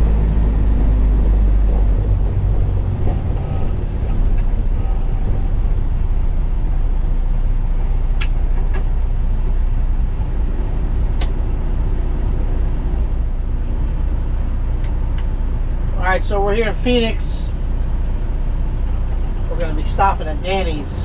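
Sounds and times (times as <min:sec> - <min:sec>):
road noise: 0:00.0 - 0:21.0
truck diesel engine rumble: 0:00.0 - 0:21.0.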